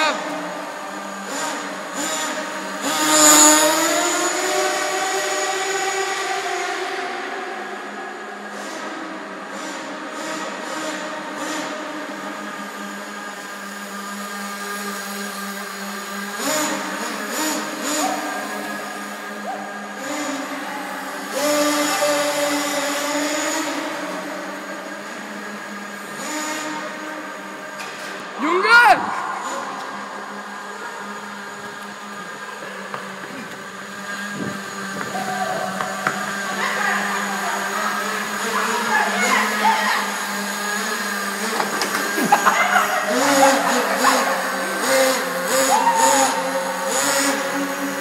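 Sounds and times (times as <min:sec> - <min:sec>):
model car engine revving: 0:00.0 - 0:28.4, 0:29.4 - 0:48.0.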